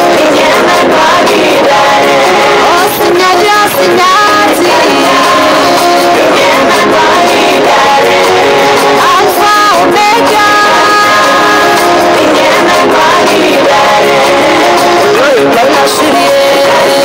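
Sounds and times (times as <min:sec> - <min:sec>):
instrumental backing music: 0:00.0 - 0:17.0
man singing gospel: 0:00.0 - 0:17.0.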